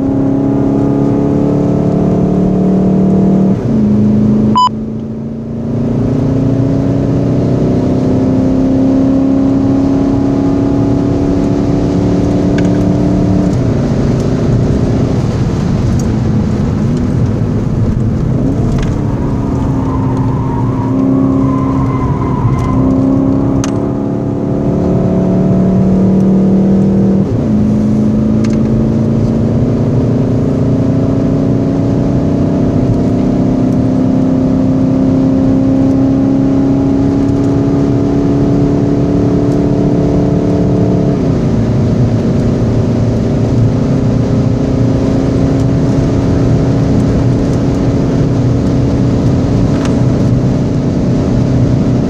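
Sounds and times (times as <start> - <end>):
diesel engine accelerating: 0.0 - 52.0
tyre and road noise: 9.1 - 34.2, 34.8 - 52.0.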